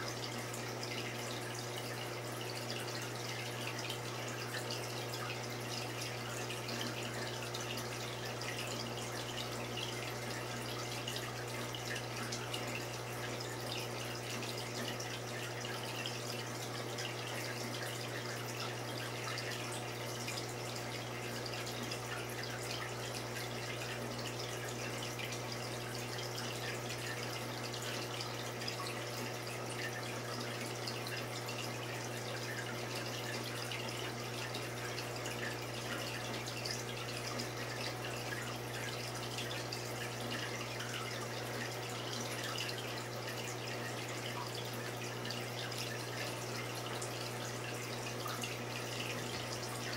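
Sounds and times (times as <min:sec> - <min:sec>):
low pump hum: 0:00.0 - 0:49.9
water trickling and splashing: 0:00.0 - 0:49.9.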